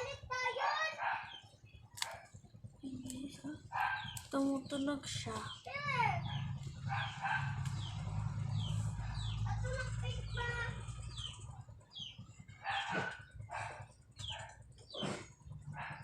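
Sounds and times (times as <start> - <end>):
low handling rumble: 1.4 - 16.0.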